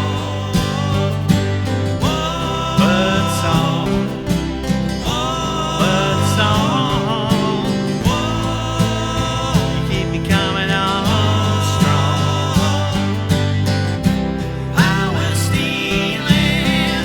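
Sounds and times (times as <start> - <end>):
acoustic country music: 0.0 - 17.0.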